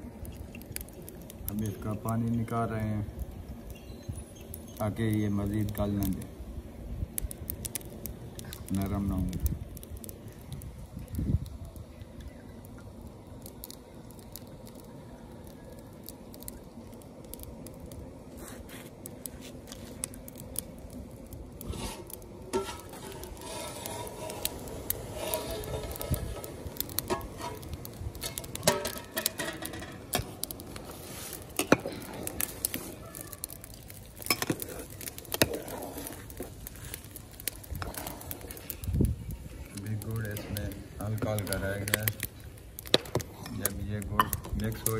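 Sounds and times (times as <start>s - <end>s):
water boiling and bubbling: 0.0s - 44.9s.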